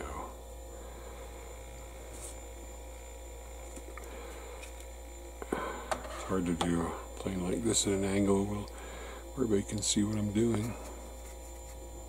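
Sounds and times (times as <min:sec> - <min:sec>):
faint high whine: 0:00.0 - 0:12.0
low electrical hum: 0:00.0 - 0:12.0.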